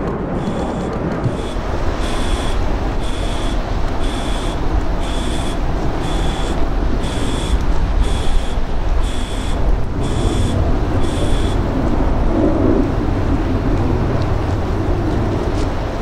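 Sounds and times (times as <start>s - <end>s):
distant jet roar: 0.0s - 16.0s.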